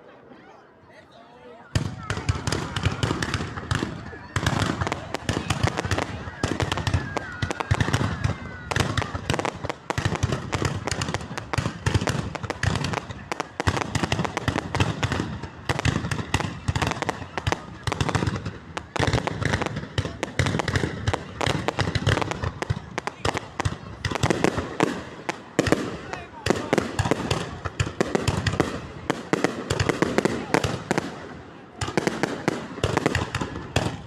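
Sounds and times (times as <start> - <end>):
fireworks crackling and banging: 1.7 - 34.0.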